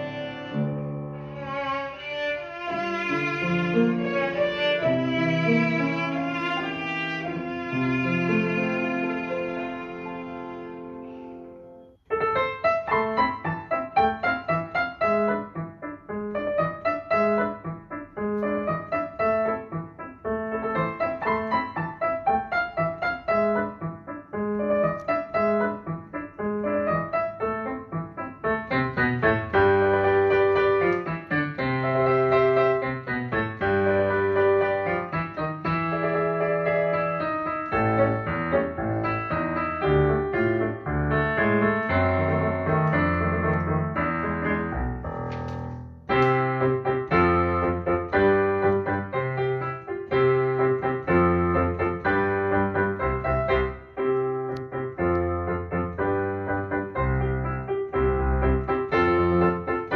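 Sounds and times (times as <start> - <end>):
piano piece: 0.0 - 59.9.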